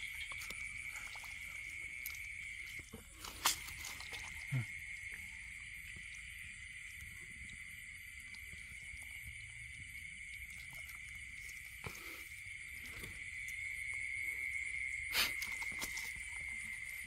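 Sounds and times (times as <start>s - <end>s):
night insects trilling: 0.0s - 17.0s.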